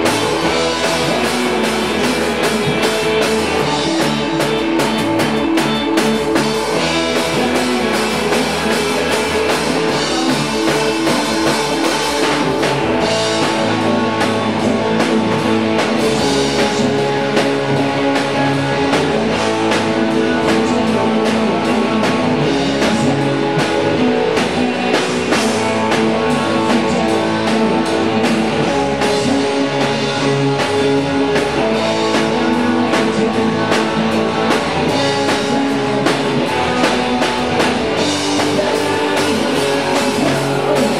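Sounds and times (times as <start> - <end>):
drum kit with cymbals: 0.0 - 40.9
electric guitars playing blues: 0.0 - 40.9.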